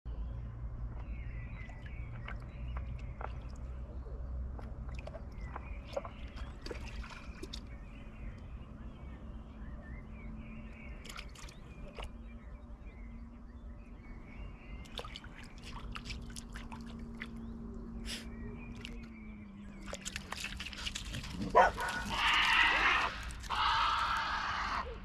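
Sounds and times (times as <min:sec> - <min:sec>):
bird chirping: 0:00.1 - 0:22.1.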